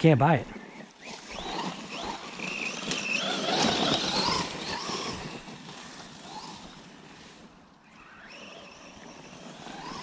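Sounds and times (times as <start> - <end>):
rc car motor whine: 0.5 - 10.0.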